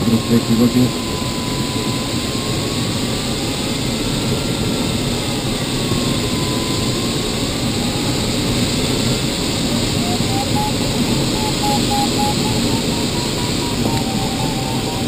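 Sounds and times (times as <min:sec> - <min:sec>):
electronic variometer tone: 0:00.0 - 0:04.6, 0:05.2 - 0:15.0.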